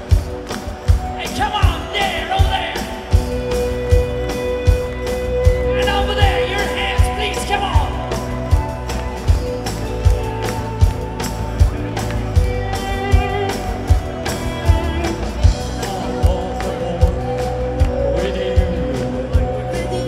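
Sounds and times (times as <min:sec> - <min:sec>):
bass: 0:00.0 - 0:20.0
drum kit: 0:00.0 - 0:20.0
electric guitar: 0:00.0 - 0:20.0.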